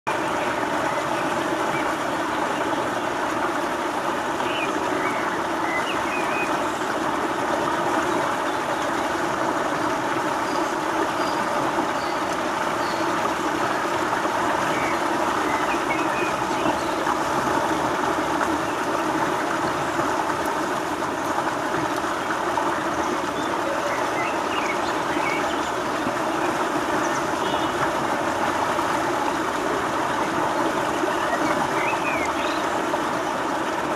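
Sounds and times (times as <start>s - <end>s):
water flowing over stones: 0.1s - 33.9s.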